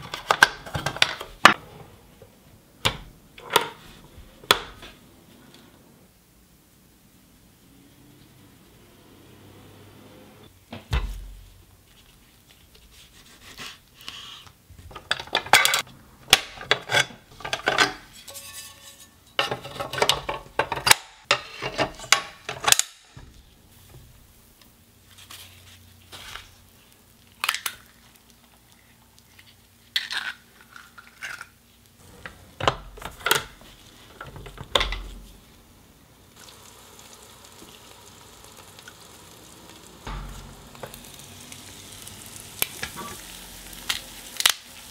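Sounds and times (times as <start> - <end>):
faint steady hiss: 0.0 - 16.6, 22.1 - 30.0, 31.5 - 44.9.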